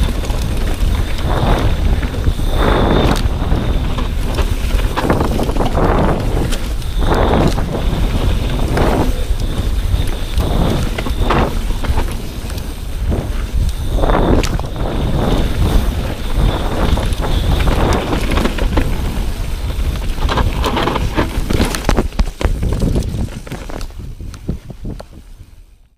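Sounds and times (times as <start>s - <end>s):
thin high whine: 0.0s - 22.1s
bike rattling and knocking: 0.0s - 25.2s
bike tyres rumbling on dirt: 0.0s - 25.9s
wind buffeting microphone: 0.0s - 25.9s.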